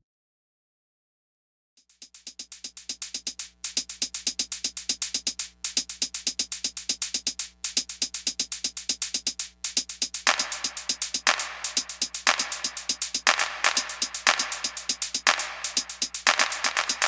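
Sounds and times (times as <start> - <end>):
drum-machine ticks: 1.8 - 17.0.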